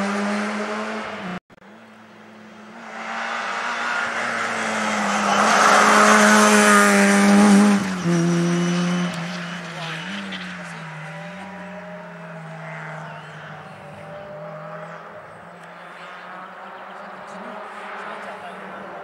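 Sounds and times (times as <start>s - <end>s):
rally car engine at high revs: 0.0s - 1.4s, 2.6s - 19.0s.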